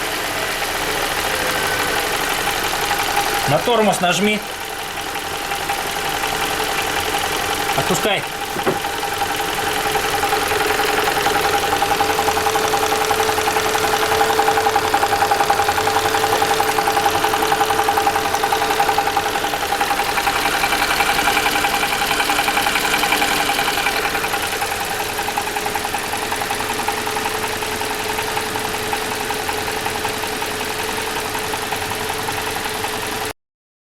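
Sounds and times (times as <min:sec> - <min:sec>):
car engine idling with rapid knock: 0:00.0 - 0:33.3.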